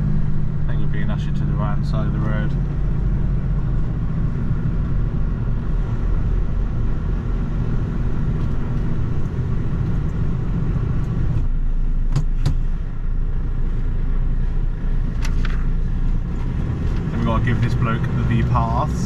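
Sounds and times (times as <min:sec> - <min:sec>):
lorry diesel engine rumble: 0:00.0 - 0:19.0.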